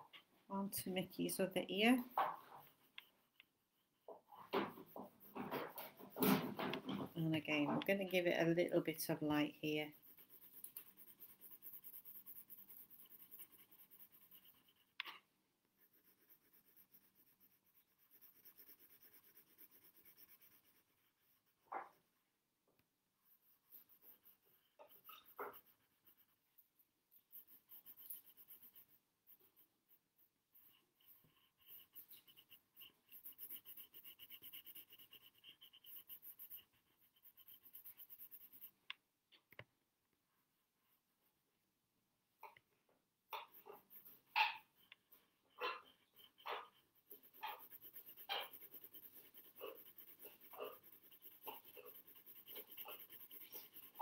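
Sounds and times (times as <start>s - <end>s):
pencil scratching on paper: 0.0s - 22.2s, 23.2s - 38.9s, 43.3s - 54.0s.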